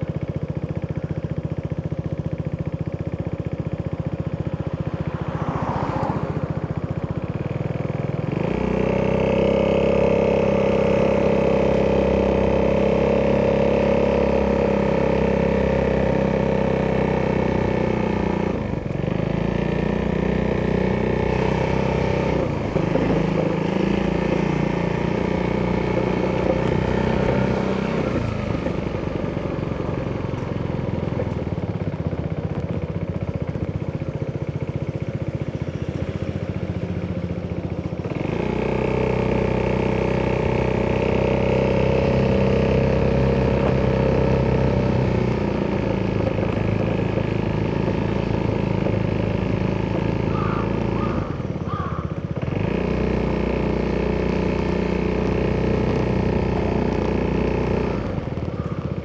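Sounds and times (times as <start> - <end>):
scooter engine running: 0.0 - 59.0.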